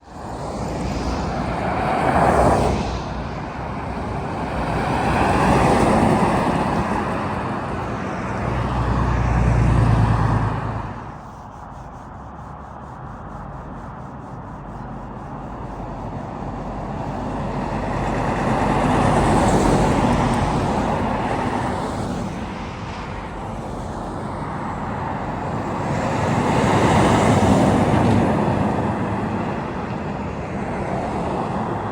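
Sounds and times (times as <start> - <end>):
road traffic passing: 0.0 - 31.9.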